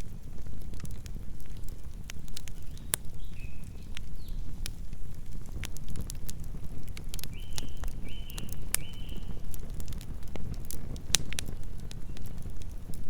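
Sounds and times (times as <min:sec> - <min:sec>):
campfire crackling and popping: 0:00.0 - 0:13.0
low rumble of flames: 0:00.0 - 0:13.0.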